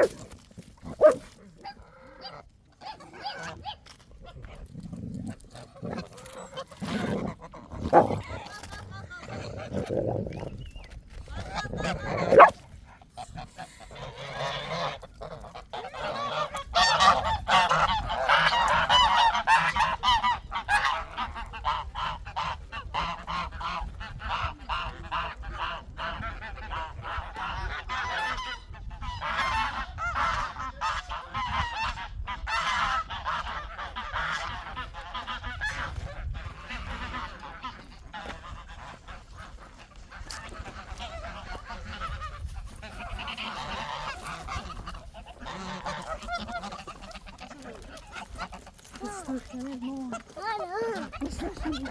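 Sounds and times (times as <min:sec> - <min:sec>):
fowl honking chatter: 0:00.0 - 0:00.2, 0:00.8 - 0:03.9, 0:05.8 - 0:10.2, 0:11.4 - 0:12.5, 0:13.2 - 0:51.9.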